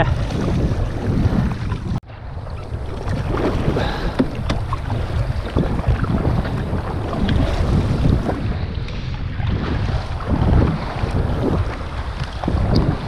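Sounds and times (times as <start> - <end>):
water sloshing and splashing: 0.0 - 13.0
wind buffeting microphone: 0.0 - 13.0.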